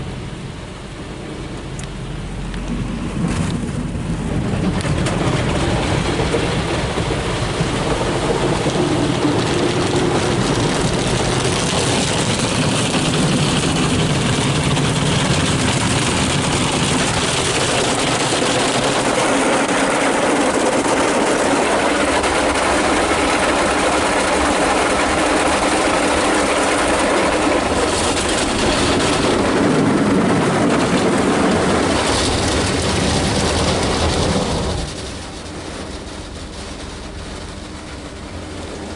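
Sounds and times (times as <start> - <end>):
car wash machinery and spraying water: 0.0 - 38.9.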